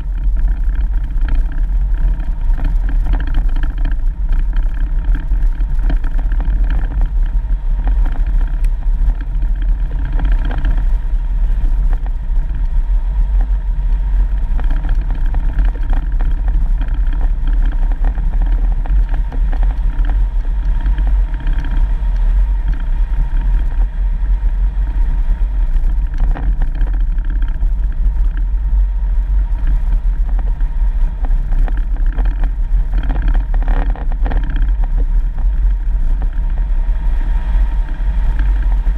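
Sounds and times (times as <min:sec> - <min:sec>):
off-road vehicle engine and road rumble: 0:00.0 - 0:38.9.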